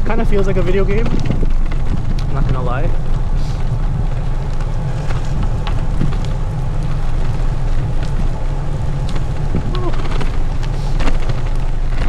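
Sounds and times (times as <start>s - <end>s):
heavy rain: 0.0s - 12.0s
tyre noise on rough road: 0.0s - 12.0s
wind rush on microphone: 0.0s - 12.0s.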